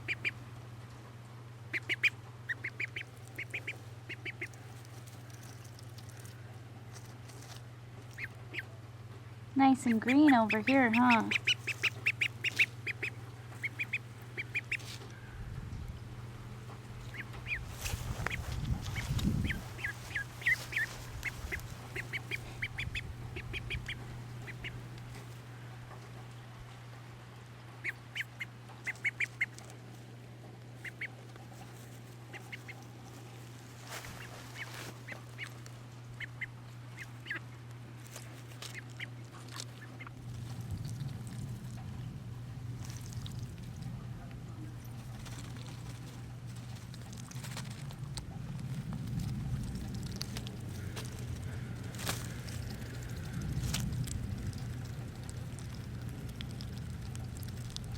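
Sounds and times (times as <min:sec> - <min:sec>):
duckling peeping: 0:00.0 - 0:00.5, 0:01.6 - 0:06.4, 0:07.0 - 0:08.8, 0:09.6 - 0:25.5, 0:27.7 - 0:29.8, 0:30.6 - 0:57.9
steady low hum: 0:00.0 - 0:57.9.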